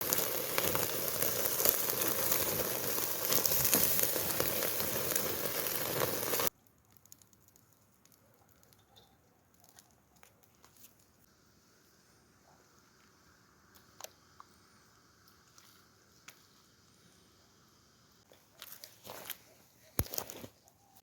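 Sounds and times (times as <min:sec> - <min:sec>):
food sizzling over campfire: 0:00.0 - 0:20.5.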